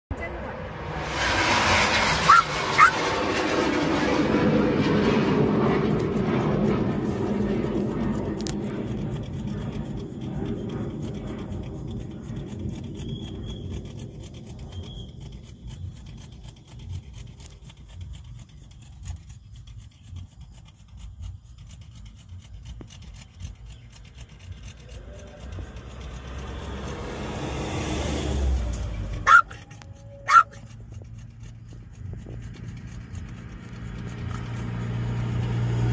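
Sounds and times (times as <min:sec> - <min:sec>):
low uneven rumble: 0:00.1 - 0:35.9
rocket motor rushing: 0:00.2 - 0:35.9.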